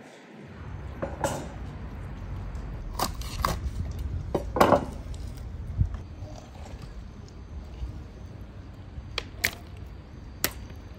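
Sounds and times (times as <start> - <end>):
low steady rumble: 0.5 - 10.9.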